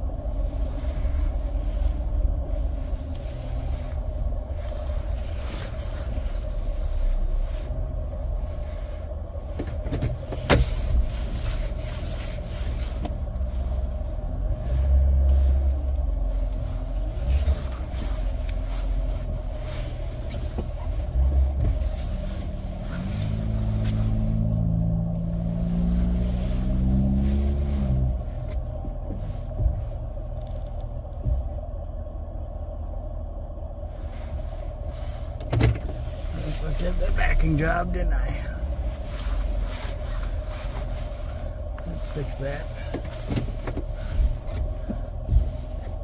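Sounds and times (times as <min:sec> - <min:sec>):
car engine and road rumble: 0:00.0 - 0:46.0
constant hum: 0:00.0 - 0:46.0.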